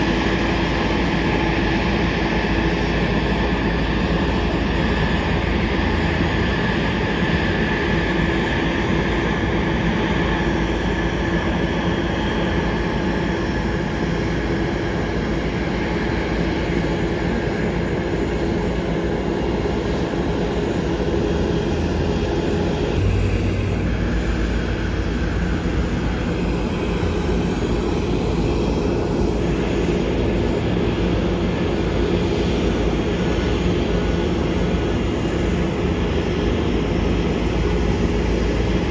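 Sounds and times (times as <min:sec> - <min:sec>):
airliner engines rumbling and whining: 0:00.0 - 0:38.9.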